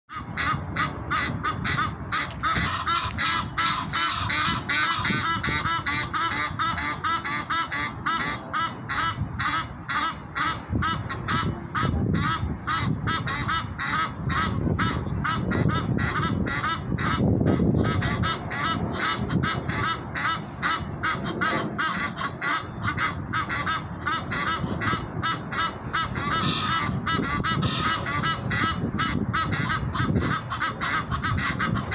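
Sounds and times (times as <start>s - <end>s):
geese honking: 0.1s - 31.9s.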